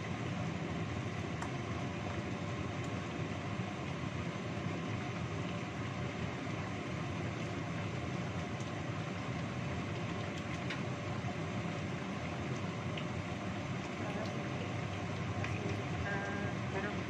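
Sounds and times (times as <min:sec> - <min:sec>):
sauce simmering with pops: 0:00.0 - 0:17.0.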